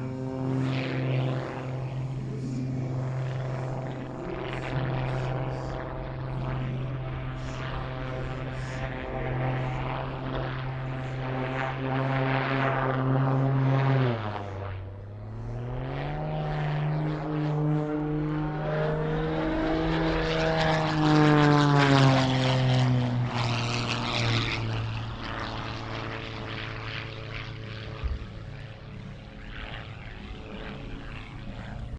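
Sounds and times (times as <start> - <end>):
propeller plane engine droning: 0.0 - 31.9.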